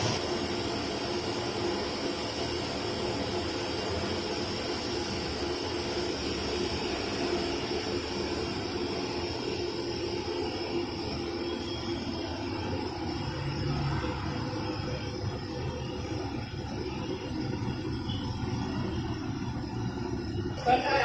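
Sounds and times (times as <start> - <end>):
steam boiler rushing: 0.0 - 21.0.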